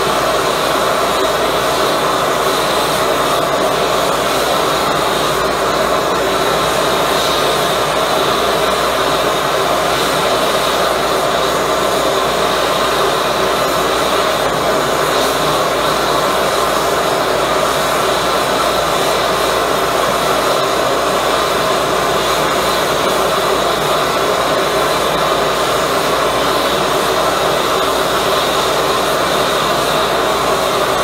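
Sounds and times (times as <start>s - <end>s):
burner flame roaring: 0.0s - 31.0s.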